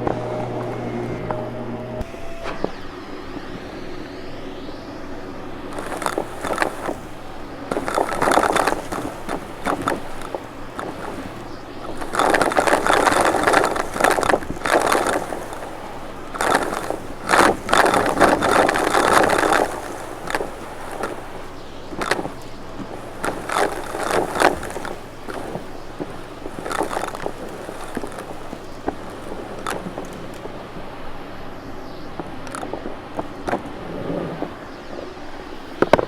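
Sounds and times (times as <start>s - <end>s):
vacuum cleaner humming: 0.0s - 31.9s.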